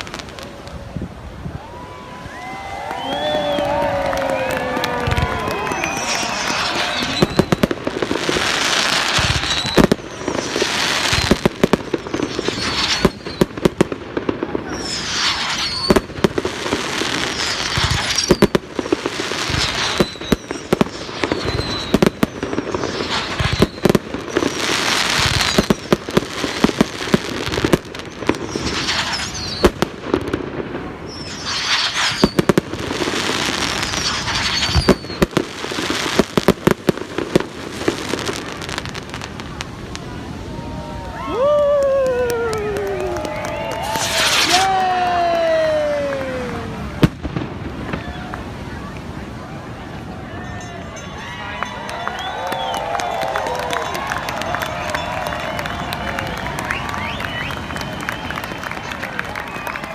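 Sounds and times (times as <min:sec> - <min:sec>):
fireworks bangs and crackling: 0:00.0 - 0:59.9
fireworks whistles: 0:01.7 - 0:48.6, 0:50.4 - 0:59.9.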